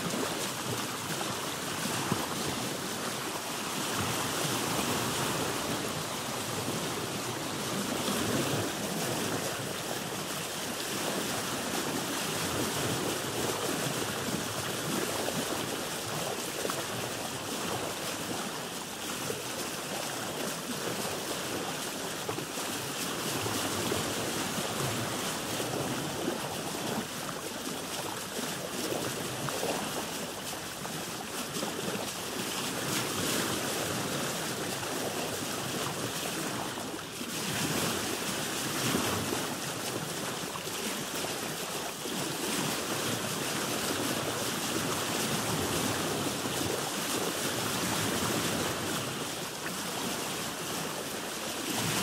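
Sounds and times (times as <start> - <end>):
sea waves washing against boat: 0.0 - 52.0.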